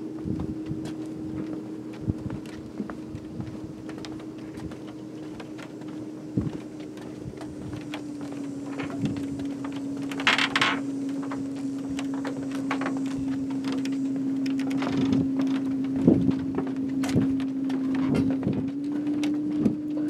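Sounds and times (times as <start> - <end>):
footsteps on wooden boards: 0.0 - 20.0
steady low drone: 0.0 - 20.0.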